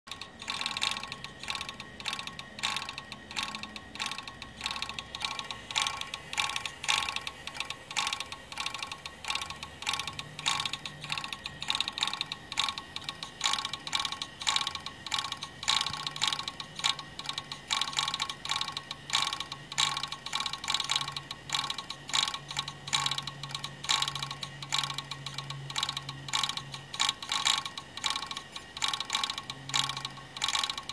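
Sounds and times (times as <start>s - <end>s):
hard drive clicking: 0.1s - 30.9s
low steady hum: 0.1s - 30.9s.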